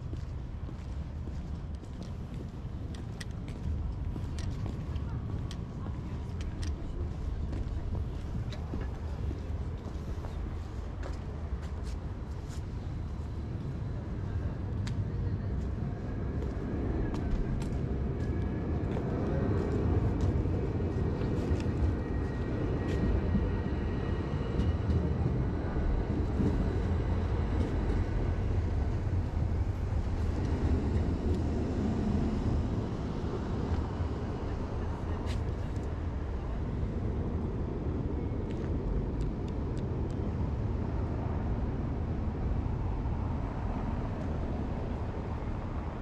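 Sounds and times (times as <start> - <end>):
traffic rumble: 0.0 - 46.0.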